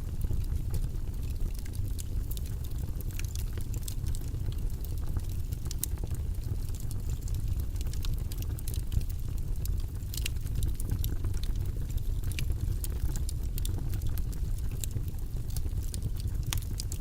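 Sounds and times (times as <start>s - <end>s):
light clicks and crackles: 0.0s - 17.0s.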